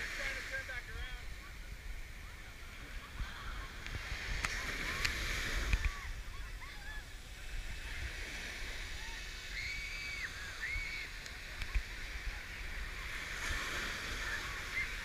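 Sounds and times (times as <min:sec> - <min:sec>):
waves breaking on beach: 0:00.0 - 0:15.0
wind on microphone: 0:01.3 - 0:15.0.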